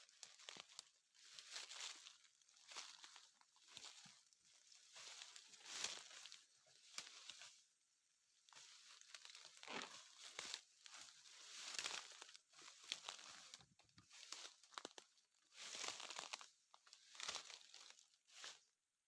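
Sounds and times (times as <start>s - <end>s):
dry leaves rustling: 0.0s - 7.6s, 8.5s - 18.7s.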